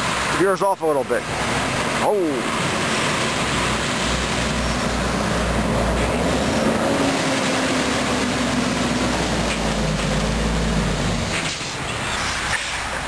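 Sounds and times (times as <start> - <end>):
truck engine passing: 0.0 - 13.0
tyre noise on wet road: 0.0 - 13.0.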